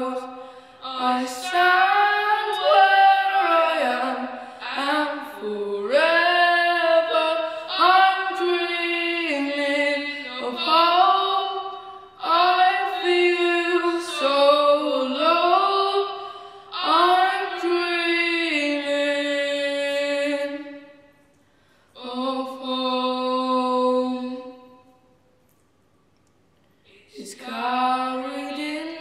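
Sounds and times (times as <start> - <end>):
boy singing: 0.0 - 20.8, 22.0 - 24.7, 27.0 - 29.0.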